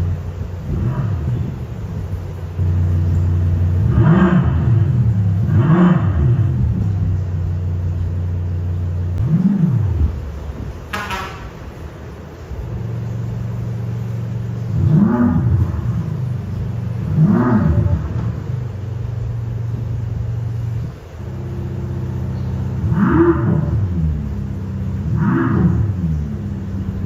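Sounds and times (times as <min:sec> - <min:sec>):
synthetic car engine revving: 0:00.0 - 0:27.0.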